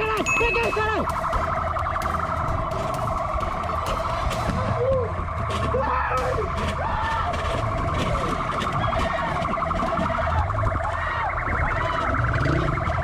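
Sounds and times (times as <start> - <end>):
low engine rumble: 0.0 - 13.0
police siren warbling: 0.0 - 13.0.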